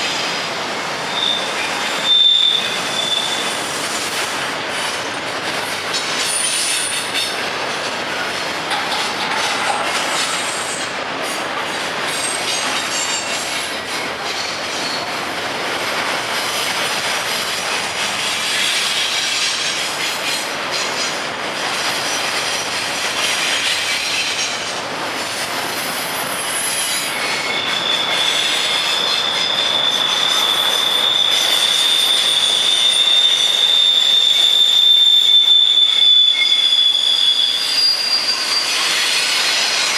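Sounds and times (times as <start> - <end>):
freight train cars rolling: 0.0 - 39.9
train wheels squealing: 0.0 - 39.9.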